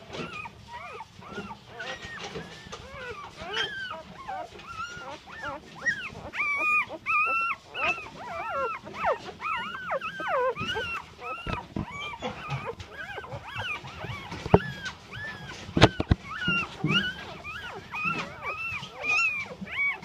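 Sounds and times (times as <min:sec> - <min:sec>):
puppies whining and whimpering: 0:00.0 - 0:20.0.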